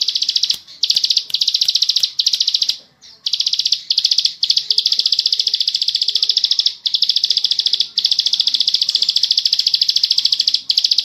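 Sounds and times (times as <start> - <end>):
bird singing rapid clicking trills: 0.0 - 11.0.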